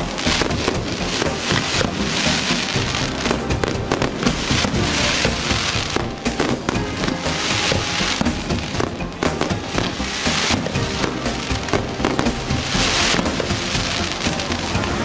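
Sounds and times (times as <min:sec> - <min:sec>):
fireworks crackling and banging: 0:00.0 - 0:15.0
music playing: 0:00.0 - 0:15.0.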